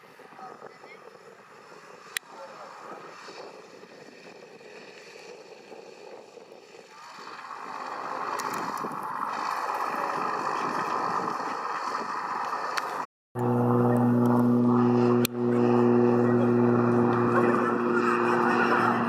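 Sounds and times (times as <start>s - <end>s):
distant propeller plane engine drone: 0.0s - 19.0s.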